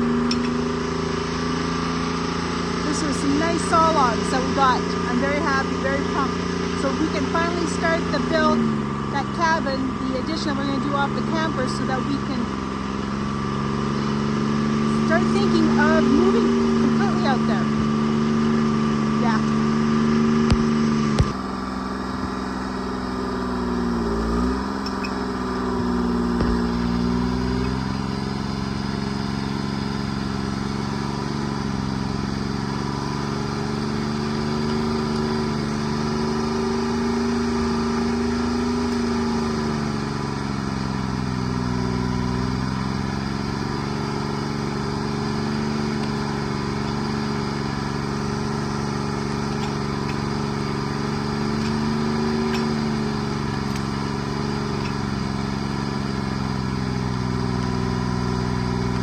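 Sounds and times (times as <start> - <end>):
forestry machine engine running: 0.0 - 59.0.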